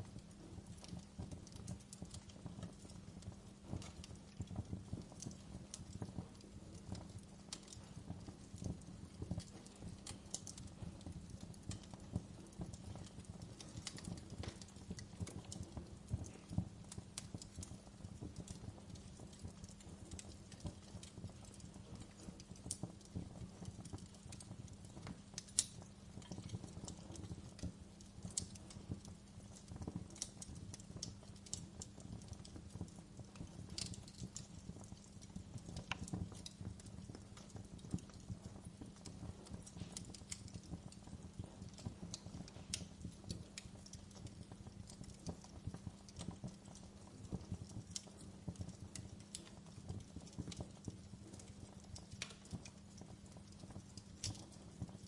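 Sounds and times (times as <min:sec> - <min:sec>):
low rumble of burning: 0:00.0 - 0:55.0
wood fire crackling and popping: 0:00.0 - 0:55.0.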